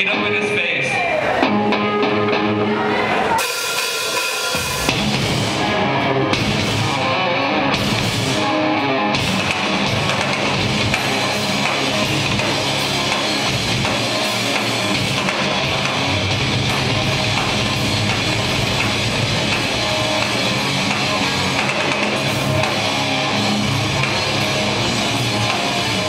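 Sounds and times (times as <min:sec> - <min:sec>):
pop-punk band playing live: 0:00.0 - 0:26.0.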